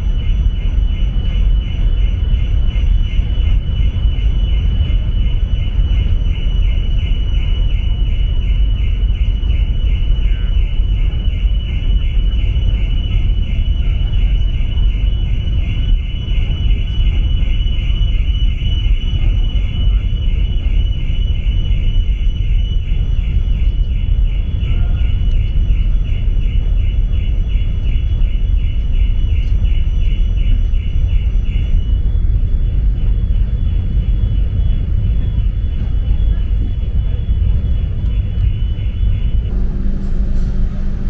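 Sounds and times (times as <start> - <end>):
high pulsing whine: 0.0 - 41.0
ship low rumble: 0.0 - 41.0
wind noise: 0.0 - 41.0.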